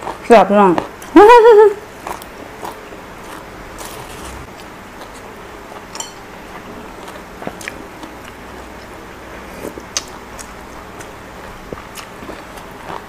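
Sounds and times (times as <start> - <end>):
person chewing: 0.0 - 0.2, 1.9 - 13.0.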